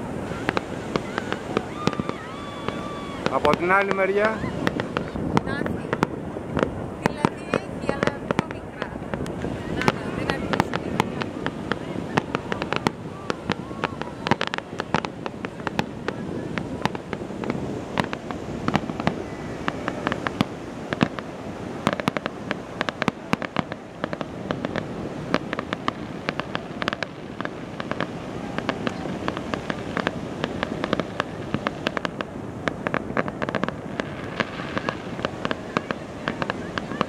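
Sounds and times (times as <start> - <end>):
crackling pops: 0.0 - 37.0
firework shells bursting: 0.0 - 37.0.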